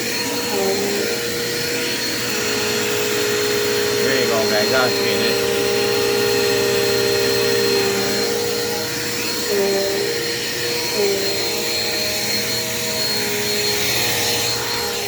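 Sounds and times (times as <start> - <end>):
vacuum cleaner running over carpet: 0.0 - 15.0.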